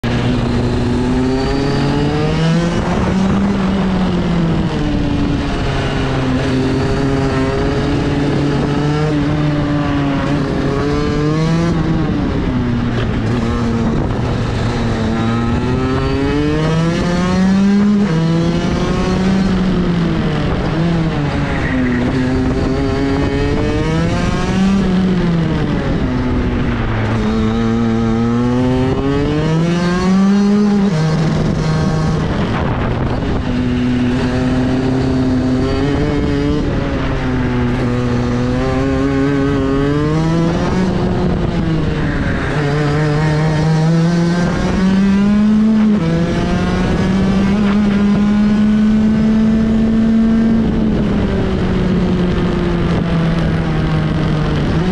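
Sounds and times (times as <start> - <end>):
kart engine revving: 0.0 - 54.9.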